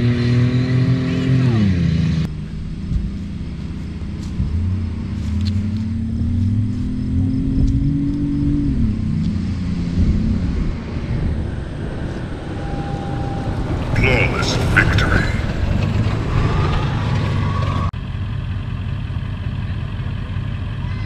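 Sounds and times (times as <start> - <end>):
engine accelerating hard: 0.0 - 21.0.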